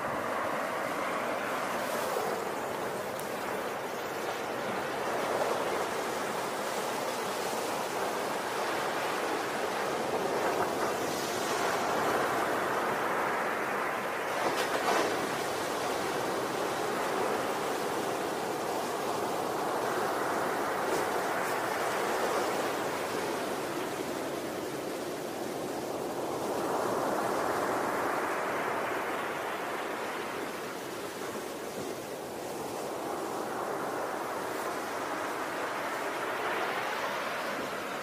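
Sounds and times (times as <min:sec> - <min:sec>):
waves breaking on beach: 0:00.0 - 0:38.0.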